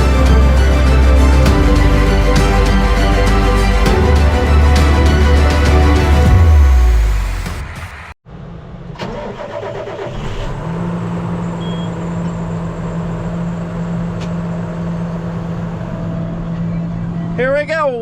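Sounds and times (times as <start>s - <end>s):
vehicle engine starting and idling: 0.0s - 17.2s.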